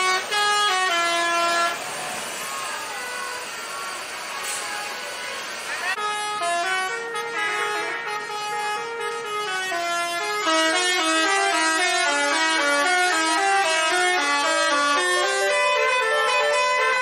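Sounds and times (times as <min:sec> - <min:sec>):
bus melody horn: 0:00.0 - 0:17.0.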